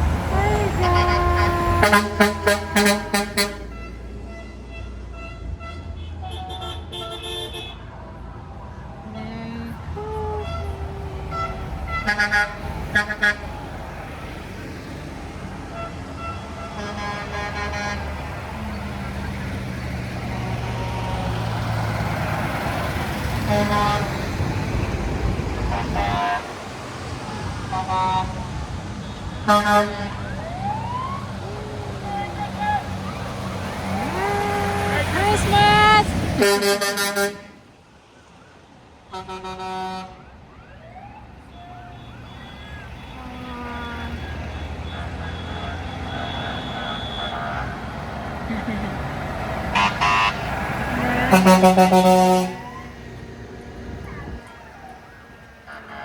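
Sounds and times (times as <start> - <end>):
truck horns honking: 0.0 - 7.9, 9.1 - 37.7, 39.1 - 40.3, 41.5 - 56.0
truck engines rumbling: 0.0 - 56.0.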